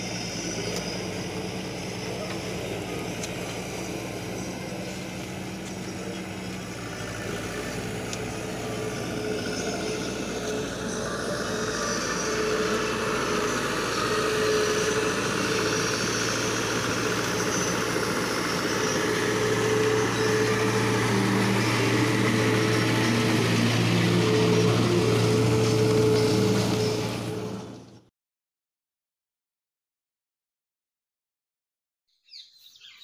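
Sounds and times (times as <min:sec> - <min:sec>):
tractor diesel engine running: 0:00.0 - 0:28.1.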